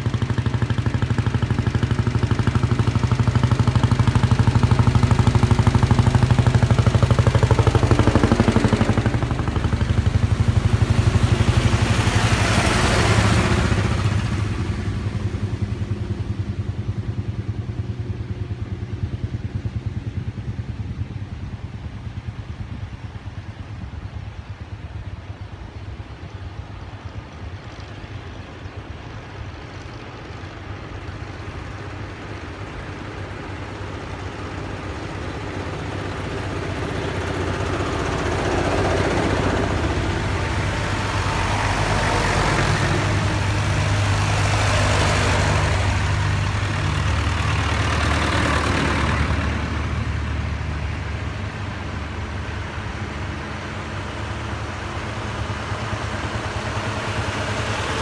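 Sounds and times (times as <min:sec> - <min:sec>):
tractor engines driving past: 0:00.0 - 0:58.0.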